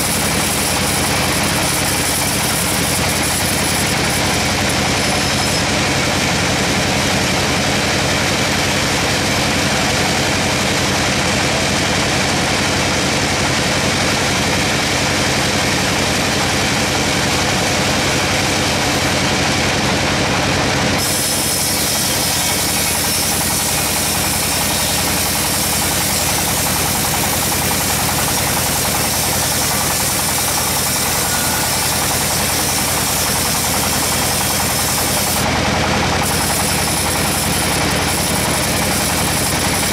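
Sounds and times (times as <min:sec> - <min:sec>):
band saw running: 0:00.0 - 0:39.9.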